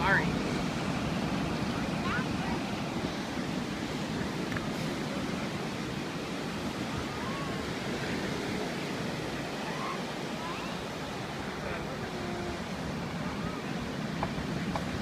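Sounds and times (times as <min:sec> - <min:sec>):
ocean surf washing on beach: 0:00.0 - 0:15.0.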